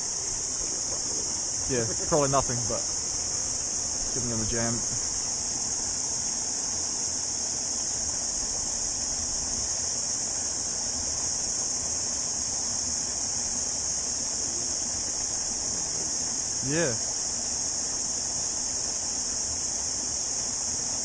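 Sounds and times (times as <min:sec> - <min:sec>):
cicadas singing: 0:00.0 - 0:21.0.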